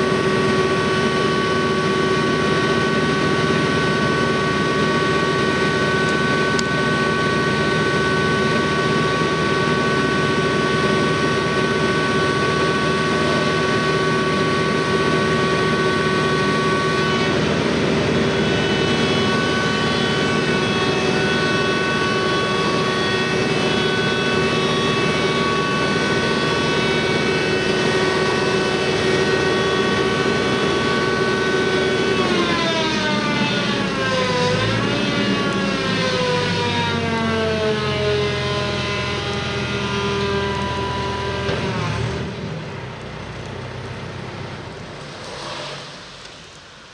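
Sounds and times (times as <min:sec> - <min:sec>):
diesel engine running with a whine: 0:00.0 - 0:46.9.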